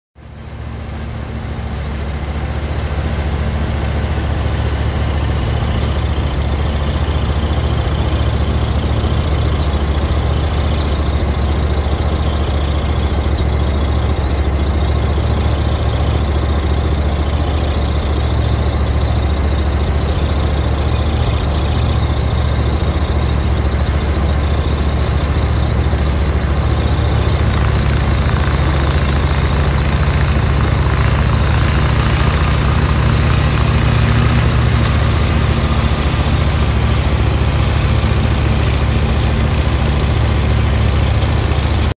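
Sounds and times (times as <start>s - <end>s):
mower engine running: 0.2s - 41.9s.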